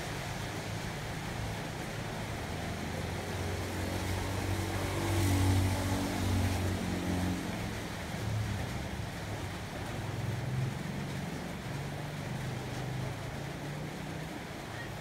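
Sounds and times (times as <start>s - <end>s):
vehicle engine hum: 0.1s - 15.0s.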